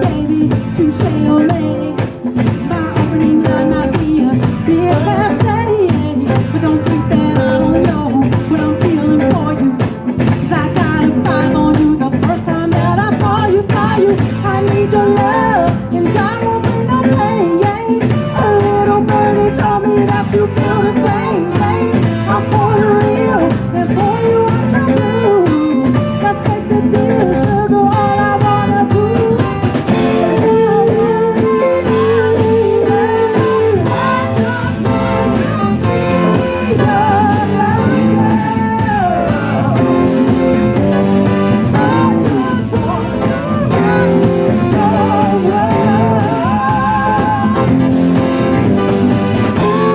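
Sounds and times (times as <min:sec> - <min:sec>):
guitar: 0:00.0 - 0:49.9
percussion: 0:00.0 - 0:49.9
person singing: 0:00.0 - 0:49.9.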